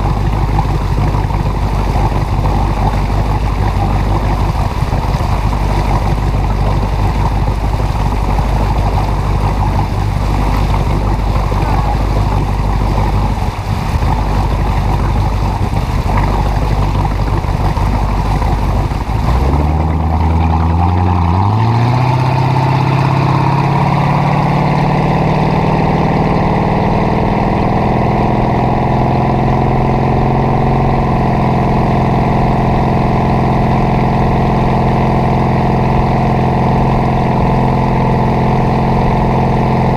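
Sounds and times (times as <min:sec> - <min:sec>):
boat engine revving: 0:00.0 - 0:39.9
water rushing: 0:00.0 - 0:39.9
wind: 0:00.0 - 0:39.9.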